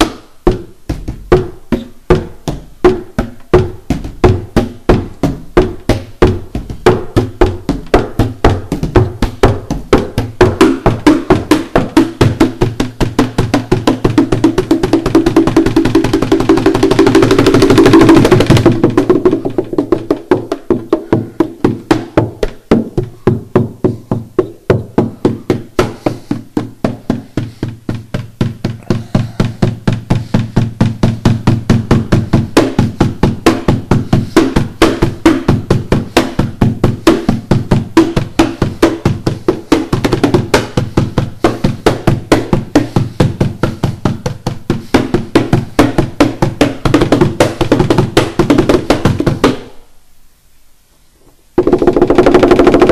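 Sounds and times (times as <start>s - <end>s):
hands drumming on guitar and box: 0.0s - 49.8s, 51.6s - 52.9s.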